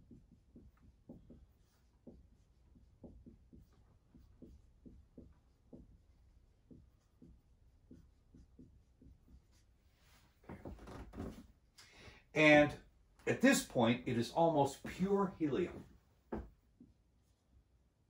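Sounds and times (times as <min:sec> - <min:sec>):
marker strokes on whiteboard: 0:00.0 - 0:10.4, 0:13.4 - 0:17.8.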